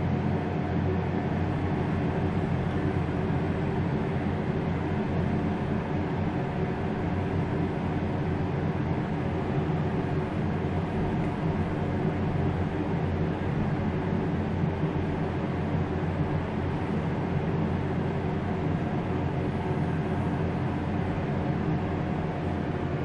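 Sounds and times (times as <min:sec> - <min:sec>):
elevator hum and rumble: 0:00.0 - 0:23.0.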